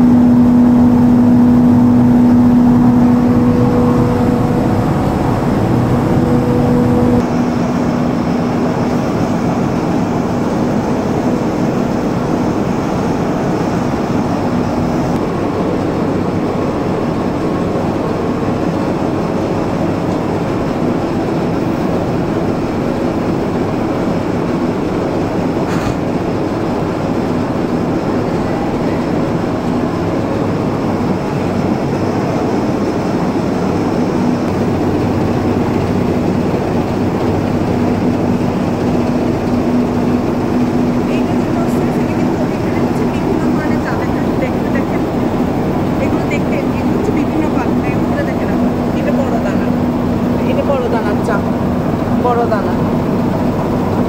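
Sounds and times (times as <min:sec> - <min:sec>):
continuous machine din: 0:00.0 - 0:54.0
machinery motor hum: 0:00.0 - 0:54.0.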